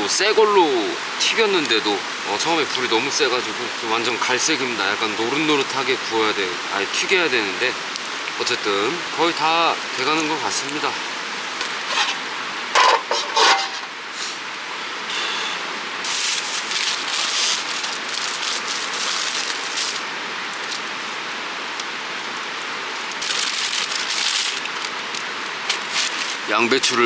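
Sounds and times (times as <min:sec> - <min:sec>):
deep-frying sizzle: 0:00.0 - 0:26.6.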